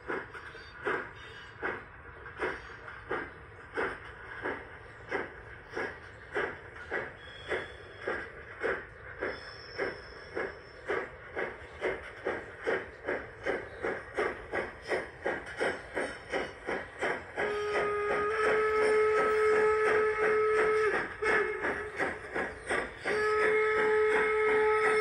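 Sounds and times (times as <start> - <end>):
steam locomotive exhaust chuffs: 0.0 - 25.0.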